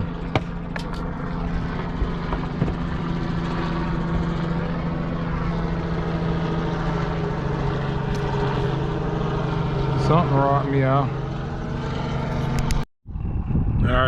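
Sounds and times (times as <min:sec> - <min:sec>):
steady engine drone: 0:00.0 - 0:14.0.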